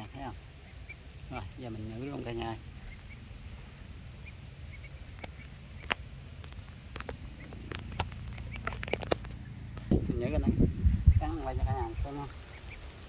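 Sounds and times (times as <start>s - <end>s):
low rumble: 0.0s - 12.5s
duckling peeping: 0.0s - 13.0s.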